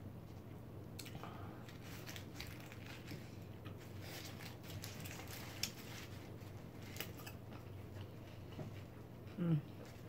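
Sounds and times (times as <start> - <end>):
faint low hum: 0.0 - 10.0
close chewing mouth sounds: 1.0 - 10.0.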